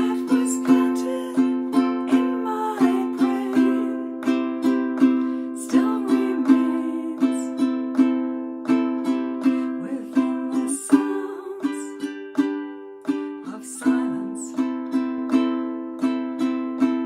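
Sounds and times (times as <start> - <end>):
ukulele strummed slowly: 0.0 - 17.0.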